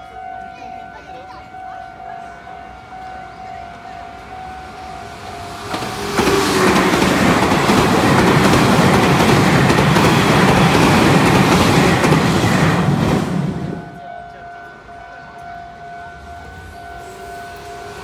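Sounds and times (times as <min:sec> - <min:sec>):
level crossing warning bell: 0:00.0 - 0:12.8, 0:13.4 - 0:18.0
train wheels on rails: 0:00.0 - 0:18.0.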